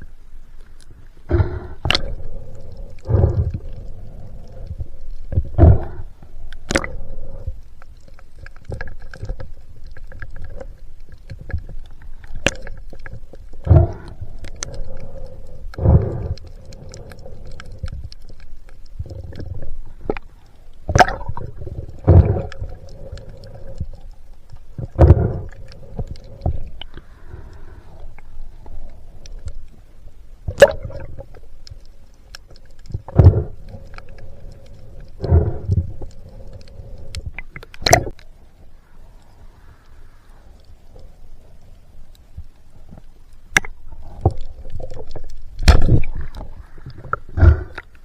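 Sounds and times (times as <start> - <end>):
faint steady hum: 0.0 - 48.0
muffled water rumble: 0.0 - 48.0.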